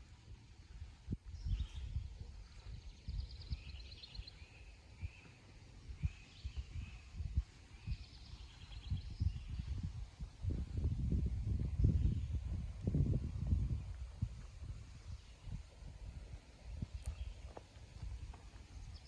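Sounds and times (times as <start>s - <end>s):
songbirds singing and chirping: 0.6s - 19.0s.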